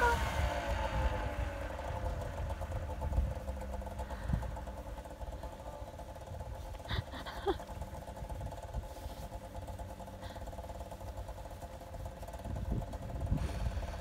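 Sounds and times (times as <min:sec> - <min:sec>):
snowmobile engine idling: 0:00.0 - 0:14.0.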